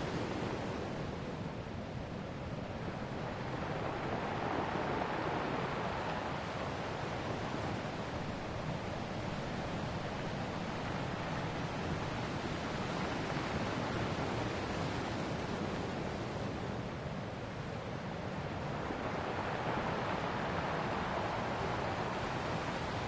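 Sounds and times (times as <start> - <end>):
ocean waves on shore: 0.0 - 23.0.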